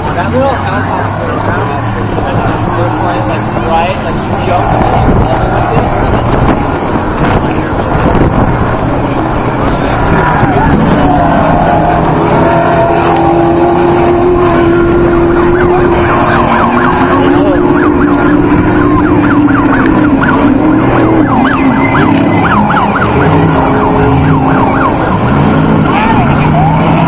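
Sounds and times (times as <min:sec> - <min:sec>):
high whooping siren tone: 0:00.0 - 0:27.0
truck engines revving: 0:00.0 - 0:27.0.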